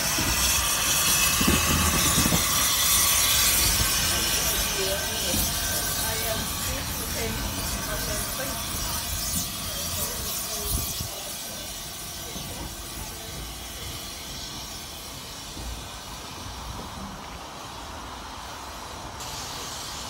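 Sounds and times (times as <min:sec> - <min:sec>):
wheels rumbling on rails: 0:00.0 - 0:19.2
steam hissing: 0:00.0 - 0:20.0.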